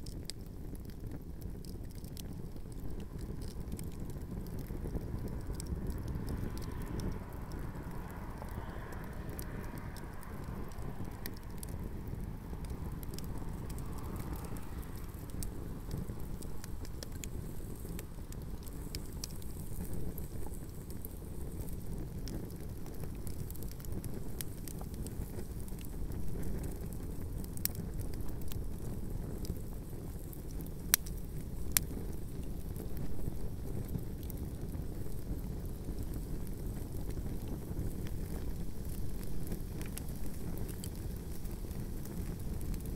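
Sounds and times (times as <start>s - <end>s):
fire crackling and popping: 0.0s - 42.9s
fire rushing: 0.0s - 42.9s.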